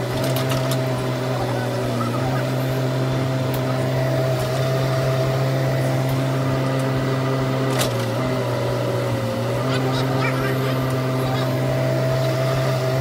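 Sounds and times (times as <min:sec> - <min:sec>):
excavator diesel engine: 0:00.0 - 0:13.0
hydraulic whine: 0:00.0 - 0:13.0.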